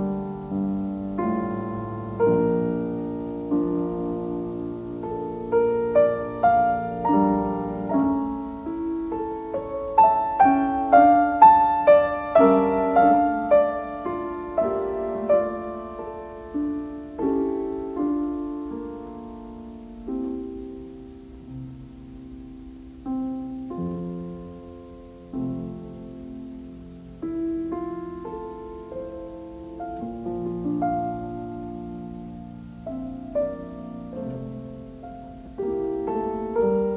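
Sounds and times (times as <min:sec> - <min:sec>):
piano melody: 0:00.0 - 0:36.9.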